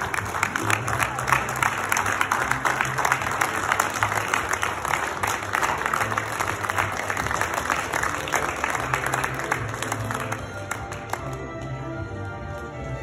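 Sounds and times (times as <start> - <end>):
audience applauding: 0.0 - 11.7
music playing: 0.0 - 13.0.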